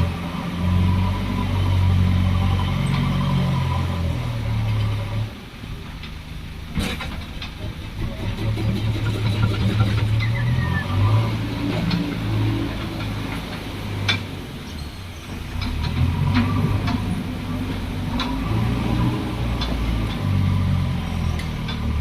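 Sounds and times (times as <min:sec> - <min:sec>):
backhoe diesel engine revving: 0:00.0 - 0:22.0.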